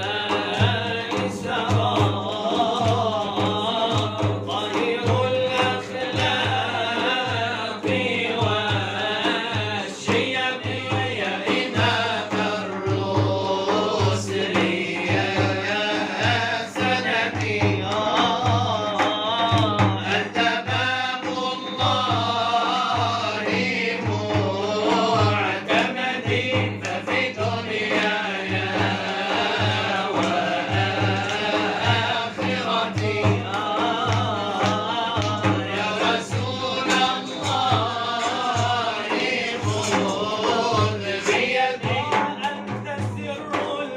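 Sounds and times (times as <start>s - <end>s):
low drum beat: 0.0s - 43.9s
man chanting devotional song: 0.0s - 43.9s.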